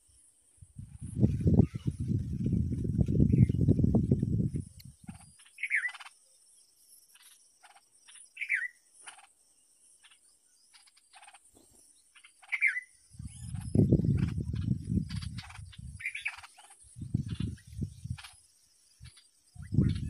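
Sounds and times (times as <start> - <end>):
high insect hiss: 0.0 - 20.0.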